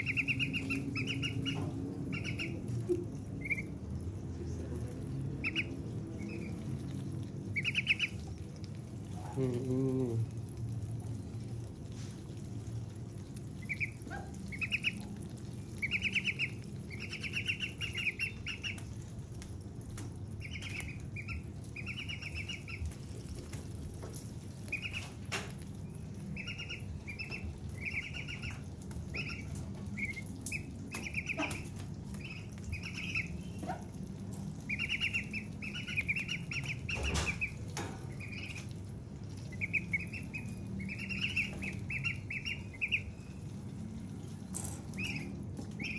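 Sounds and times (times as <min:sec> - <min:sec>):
ducklings peeping: 0:00.0 - 0:10.3, 0:12.4 - 0:19.2, 0:20.2 - 0:45.9.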